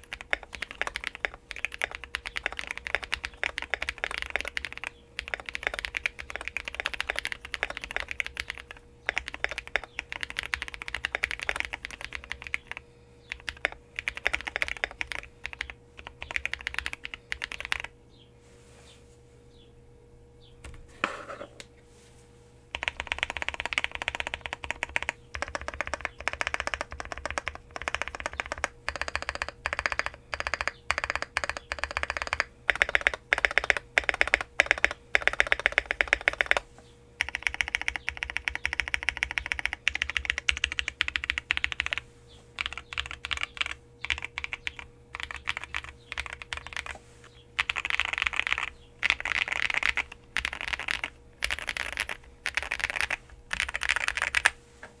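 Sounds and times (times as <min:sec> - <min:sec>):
mechanical keyboard typing: 0:00.0 - 0:17.9, 0:22.7 - 0:36.6, 0:37.2 - 0:42.0, 0:42.6 - 0:46.9, 0:47.6 - 0:54.6.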